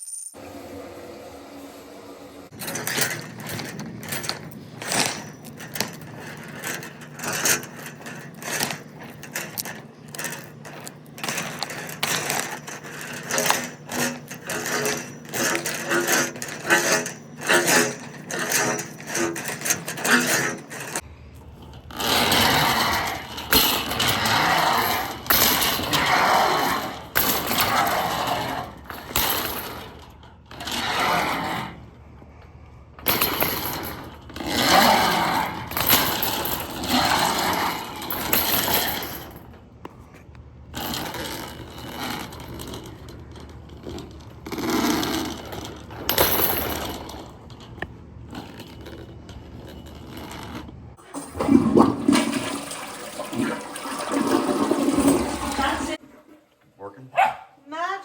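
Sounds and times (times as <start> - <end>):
drain cable scraping in pipe: 0.9 - 56.0.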